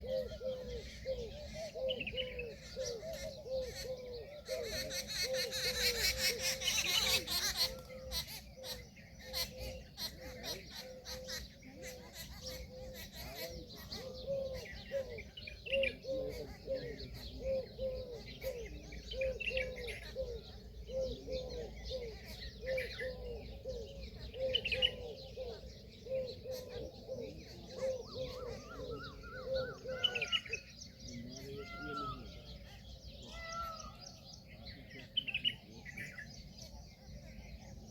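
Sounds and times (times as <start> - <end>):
peahen hooting calls: 0.0 - 34.2
small birds chirping: 0.0 - 37.9.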